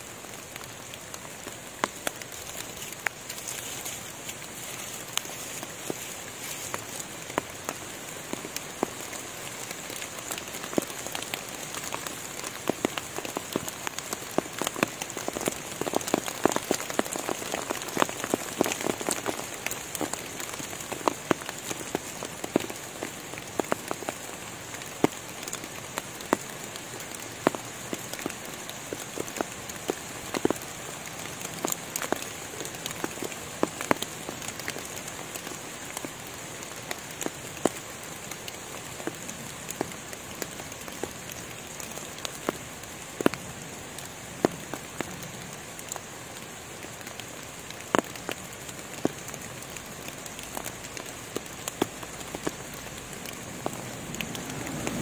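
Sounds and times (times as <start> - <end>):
rain pattering on leaves: 0.0 - 55.0
steady high hiss: 0.0 - 55.0.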